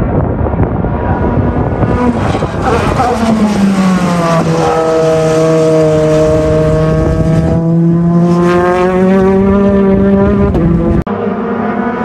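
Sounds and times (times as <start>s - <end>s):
racing car engine running hard: 0.2s - 12.0s.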